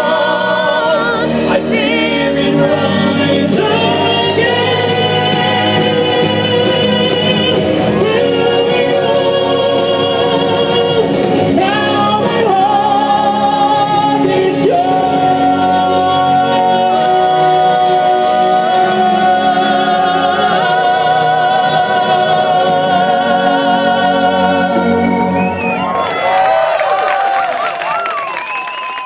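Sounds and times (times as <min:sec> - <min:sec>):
man singing into microphone: 0:00.0 - 0:25.2
backing music: 0:00.0 - 0:29.0.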